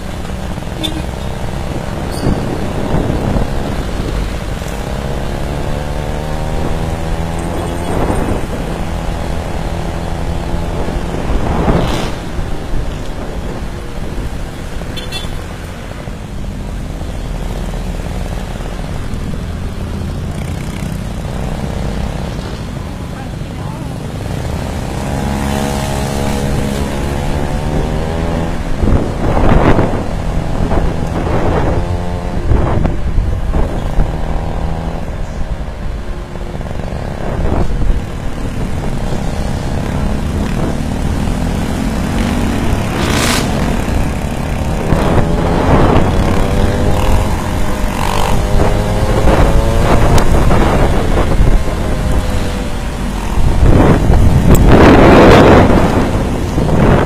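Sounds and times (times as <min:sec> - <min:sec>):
wind gusts on microphone: 0:00.0 - 0:57.0.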